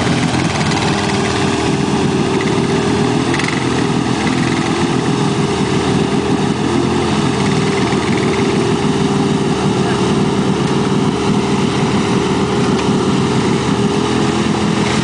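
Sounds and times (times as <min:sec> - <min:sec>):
atv engine running: 0:00.0 - 0:15.0
churning through mud and water: 0:00.0 - 0:15.0.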